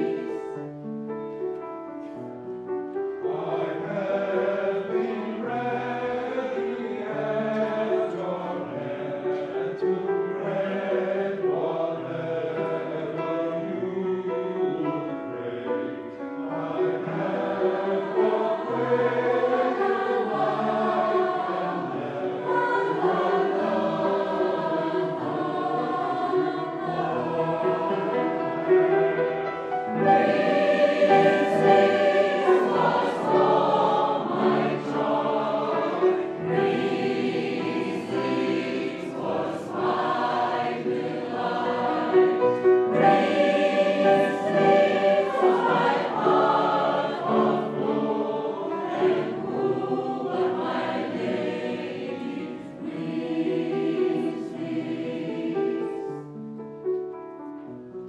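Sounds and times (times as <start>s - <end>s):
mixed choir singing: 0.0s - 0.6s, 2.8s - 56.2s.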